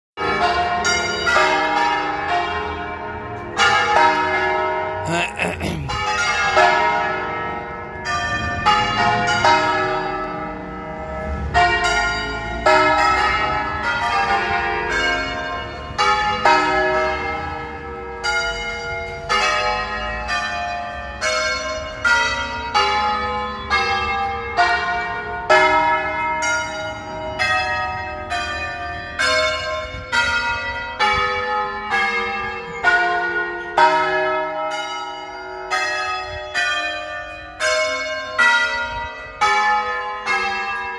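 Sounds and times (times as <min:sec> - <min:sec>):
church bells ringing: 0:00.2 - 0:05.0, 0:05.9 - 0:40.9.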